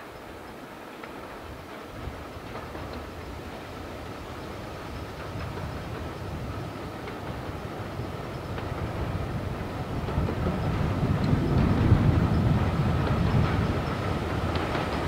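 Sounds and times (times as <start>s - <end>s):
steam locomotive hauling coaches: 0.0s - 15.0s.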